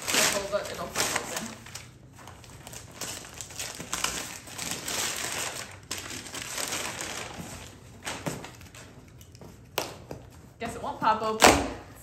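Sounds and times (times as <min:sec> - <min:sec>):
wrapping paper crinkling: 0:00.0 - 0:10.6.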